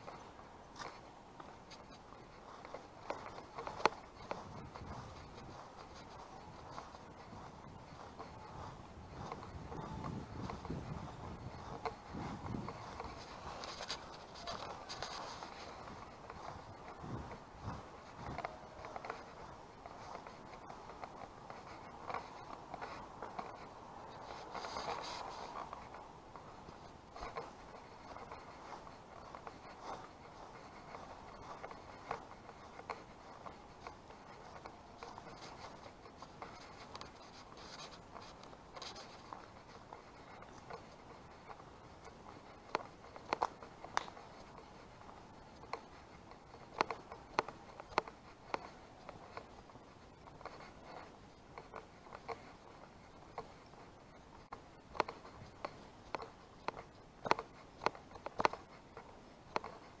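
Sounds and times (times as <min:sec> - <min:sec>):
footsteps on a paved path: 0:00.0 - 1:00.0.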